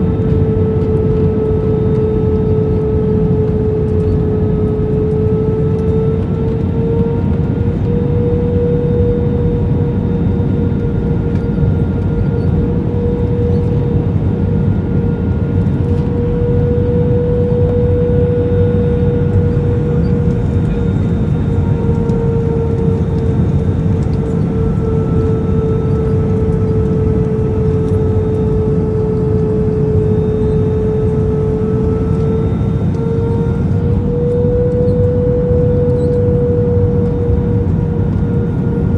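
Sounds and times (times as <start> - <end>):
jet engine rumble inside cabin: 0.0 - 38.9.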